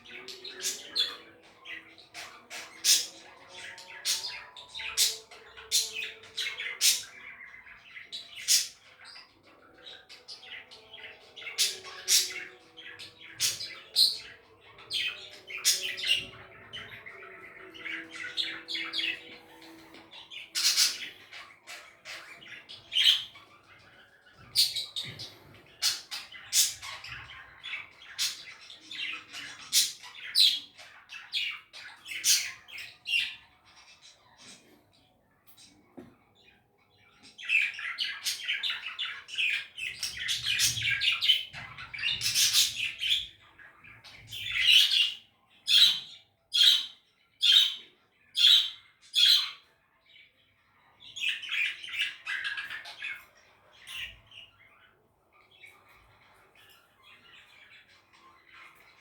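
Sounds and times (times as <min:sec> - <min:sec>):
budgies chirping and squawking: 0:00.0 - 0:59.0.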